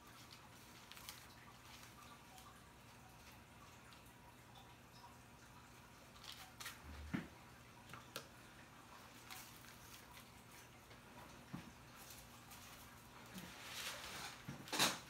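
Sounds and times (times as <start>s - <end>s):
low steady hum: 0.0s - 15.0s
soft clicks and rustles of hair foils: 0.0s - 15.0s.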